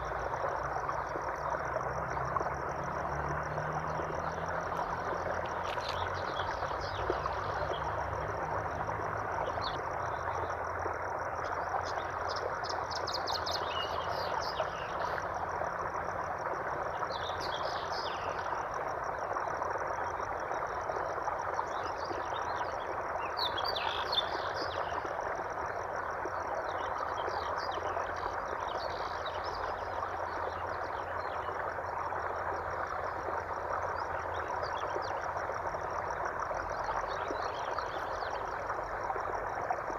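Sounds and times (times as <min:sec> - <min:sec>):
flowing water: 0:00.0 - 0:39.9
high fast trill of frogs or insects: 0:00.0 - 0:39.9.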